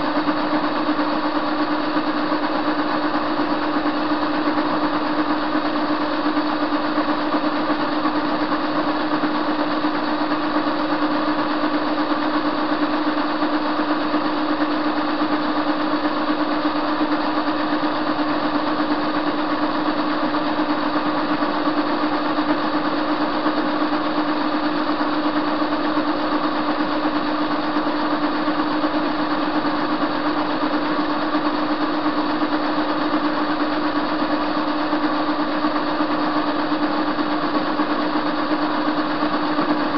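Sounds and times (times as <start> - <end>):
lathe motor humming: 0.0 - 39.9.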